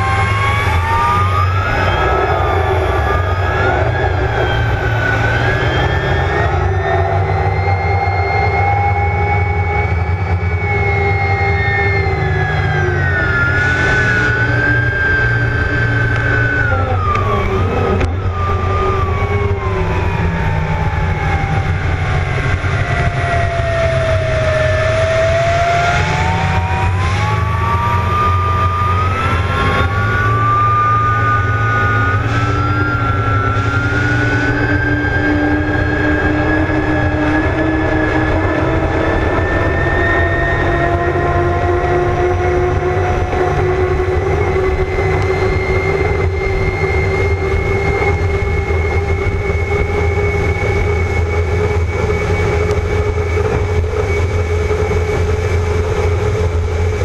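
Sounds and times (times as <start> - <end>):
gas turbine boat engines: 0.0 - 57.0.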